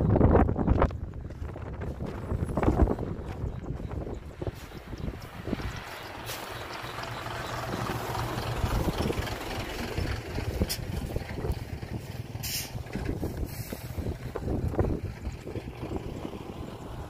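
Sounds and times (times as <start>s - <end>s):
diesel machinery rumbling: 0.0s - 17.0s
wind buffeting microphone: 0.0s - 17.0s.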